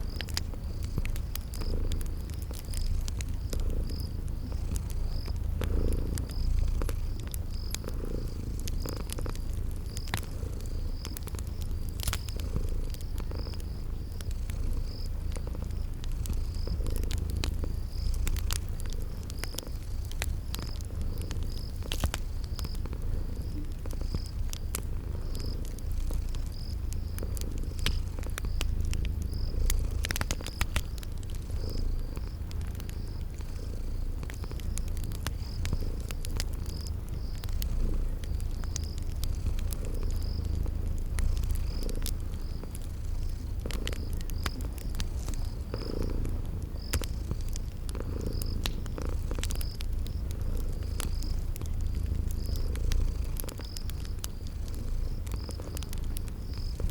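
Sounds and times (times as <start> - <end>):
cat purring: 0.0 - 56.9
cricket chirping: 0.0 - 56.9
wood fire crackling: 0.0 - 56.9.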